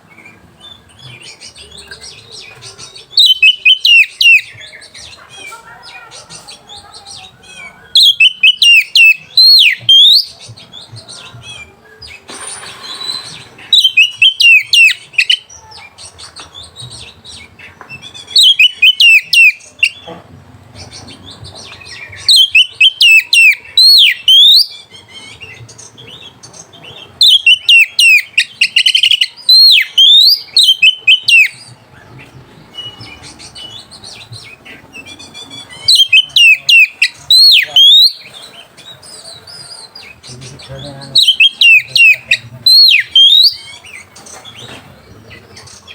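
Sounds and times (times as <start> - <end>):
bird singing whistled phrases: 0.7 - 5.1, 6.6 - 15.6, 16.9 - 20.1, 21.2 - 26.3, 27.2 - 31.7, 32.7 - 44.0.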